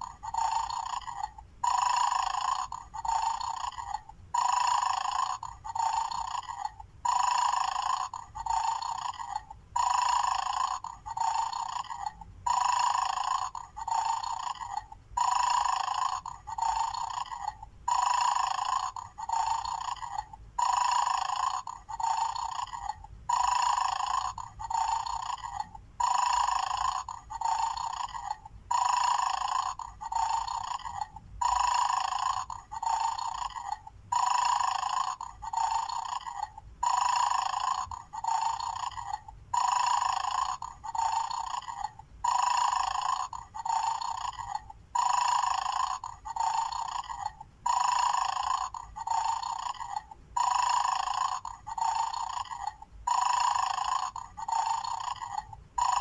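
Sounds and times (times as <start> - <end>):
tinny recorded snoring: 0.0 - 56.0.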